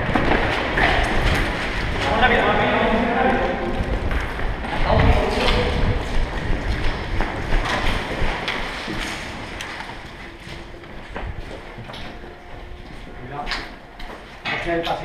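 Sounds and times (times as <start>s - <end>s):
footsteps walking and running: 0.0s - 14.5s.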